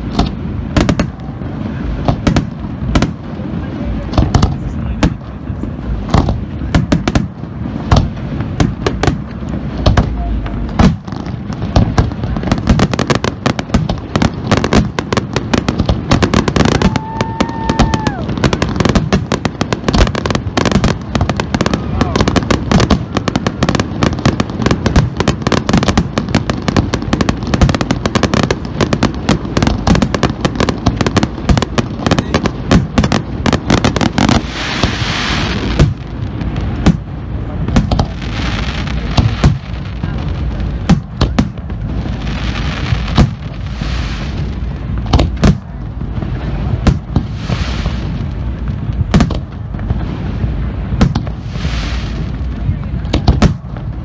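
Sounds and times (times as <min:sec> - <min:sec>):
fireworks bangs and crackles: 0:00.0 - 0:54.0
rushing hiss of fireworks: 0:00.0 - 0:54.0.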